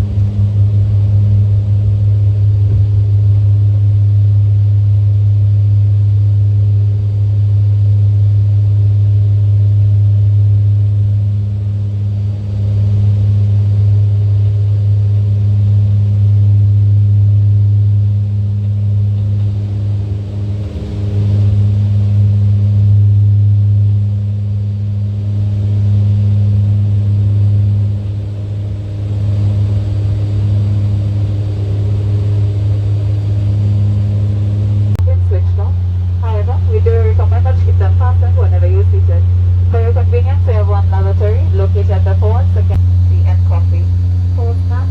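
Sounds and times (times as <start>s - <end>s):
vehicle engine drone: 0.0s - 44.9s.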